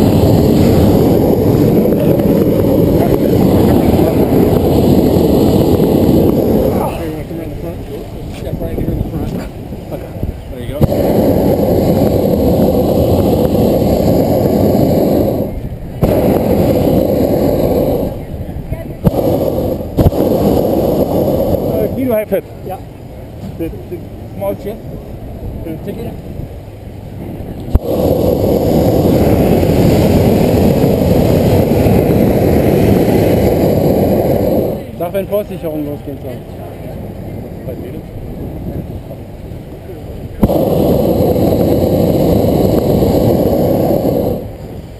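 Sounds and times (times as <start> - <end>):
propane burner blast: 0.0 - 44.9.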